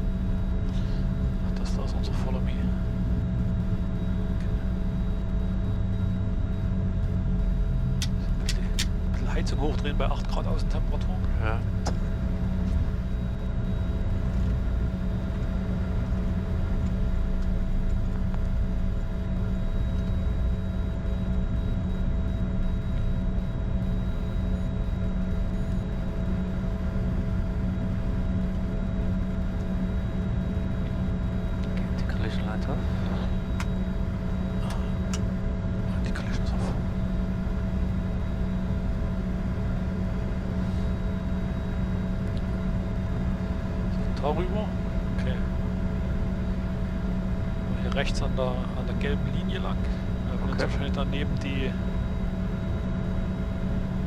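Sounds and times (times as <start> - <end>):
jet engines idling in cockpit: 0.0 - 54.0.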